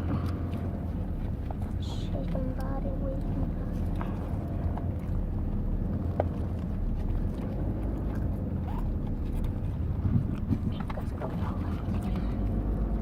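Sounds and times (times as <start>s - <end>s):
car driving rumble inside cabin: 0.0s - 13.0s.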